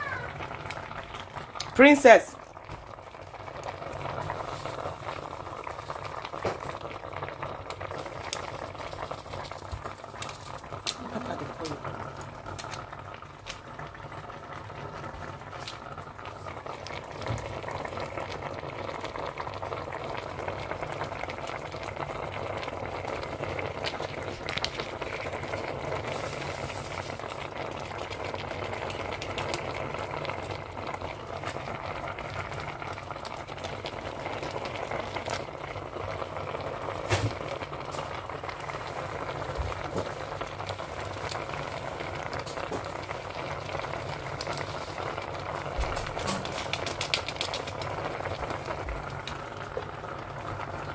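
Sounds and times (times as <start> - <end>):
stove hissing: 0.0 - 50.9.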